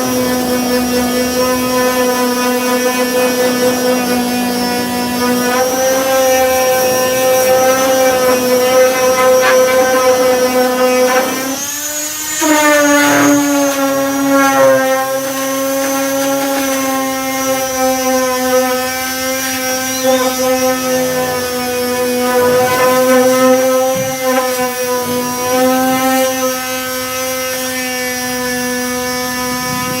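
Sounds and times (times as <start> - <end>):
power sander whining: 0.0 - 30.0.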